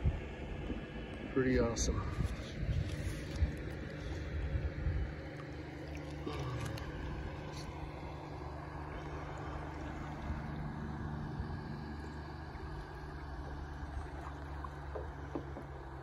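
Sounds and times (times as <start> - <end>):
motorboat engine humming: 0.0 - 16.0
water: 0.0 - 16.0.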